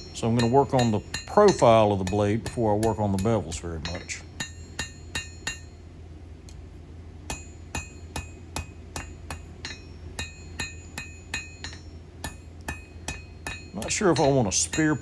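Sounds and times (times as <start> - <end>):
hammer striking steel on anvil: 0.0 - 5.8, 7.3 - 15.0.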